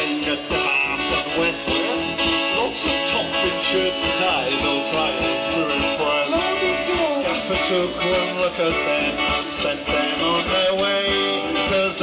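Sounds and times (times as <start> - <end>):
pitch-bending melody line: 0.0 - 12.0
steady drum beat: 0.0 - 12.0
strummed guitar: 0.0 - 12.0.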